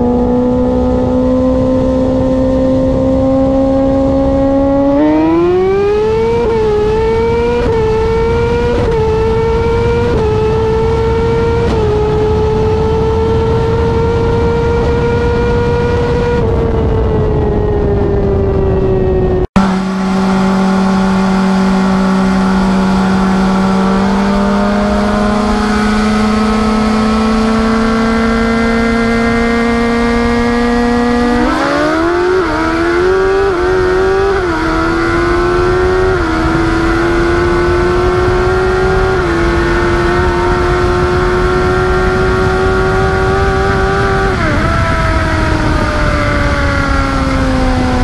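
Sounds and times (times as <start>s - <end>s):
motorcycle engine accelerating: 0.0s - 48.0s
wind rush on microphone: 0.0s - 48.0s.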